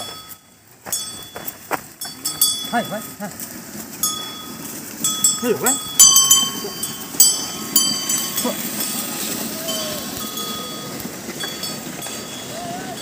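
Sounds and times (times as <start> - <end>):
animal bells clanking: 0.0 - 13.0.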